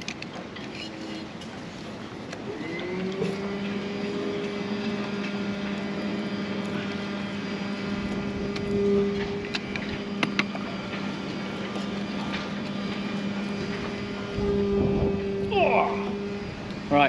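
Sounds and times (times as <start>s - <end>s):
motor running steadily: 0.0s - 17.0s.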